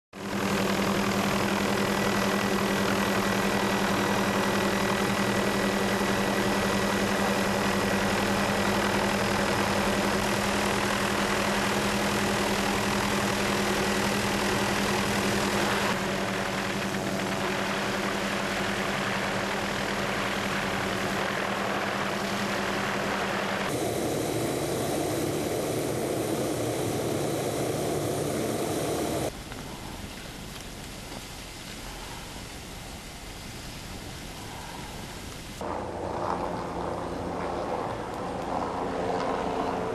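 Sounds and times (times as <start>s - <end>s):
aircraft engine hum: 0.2s - 39.9s.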